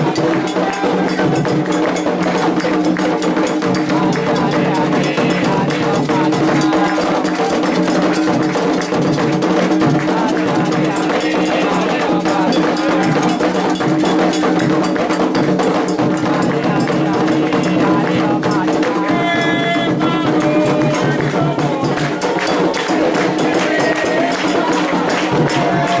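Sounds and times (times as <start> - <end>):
agogo bell: 0.0 - 26.0
hand drums: 0.0 - 26.0.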